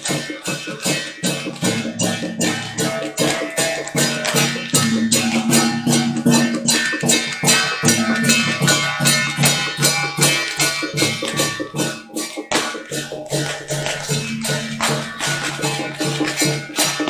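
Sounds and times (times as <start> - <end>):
music with quick percussion beat: 0.0 - 17.0.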